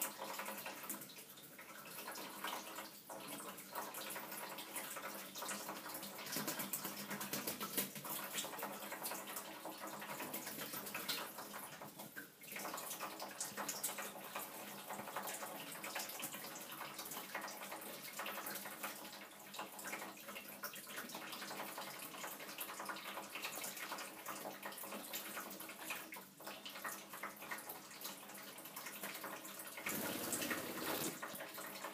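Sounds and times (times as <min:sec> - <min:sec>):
tap water splashing into sink: 0:00.0 - 0:31.9.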